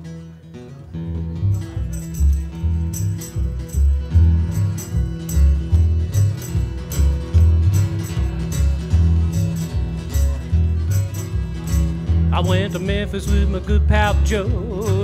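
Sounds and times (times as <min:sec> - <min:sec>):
guitar: 0:00.0 - 0:15.0
bass line of low notes: 0:01.0 - 0:15.0
jingling tambourine-like percussion: 0:01.3 - 0:15.0.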